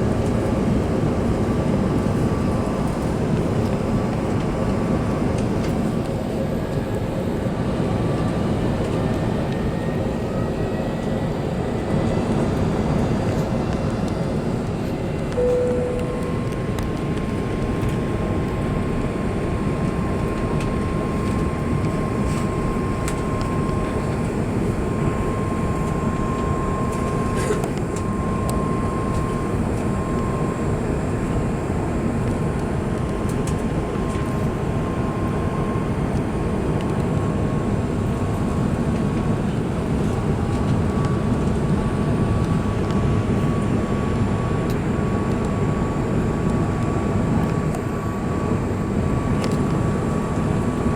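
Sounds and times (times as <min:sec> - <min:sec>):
airflow and engine noise: 0:00.0 - 0:50.9
thin steady whine: 0:09.2 - 0:50.9.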